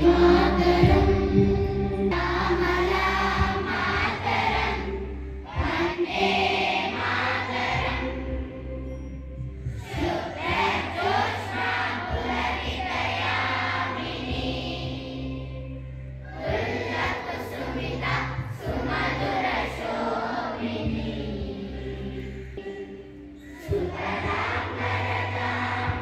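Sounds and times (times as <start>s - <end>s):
children singing in chorus: 0.0s - 26.0s.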